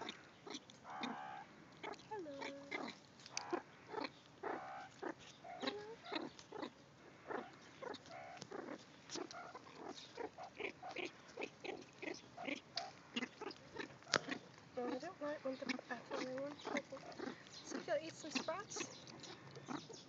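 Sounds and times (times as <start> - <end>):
meerkats squeaking and chirping: 0.0 - 20.0.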